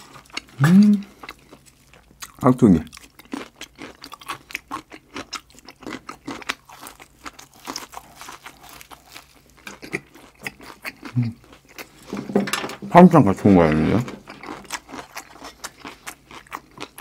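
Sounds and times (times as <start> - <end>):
crunchy chewing: 0.0 - 12.2, 13.8 - 17.0.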